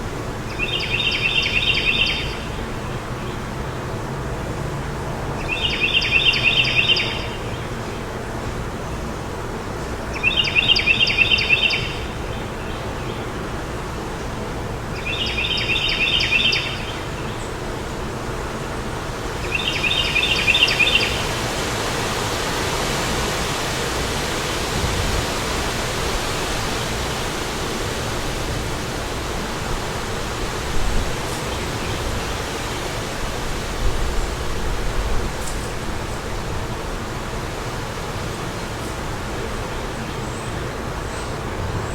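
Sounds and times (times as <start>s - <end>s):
wind: 0.0s - 41.9s.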